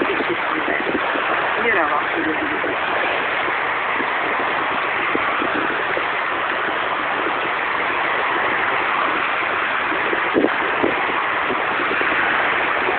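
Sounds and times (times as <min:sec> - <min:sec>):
sea waves rushing: 0:00.0 - 0:12.9.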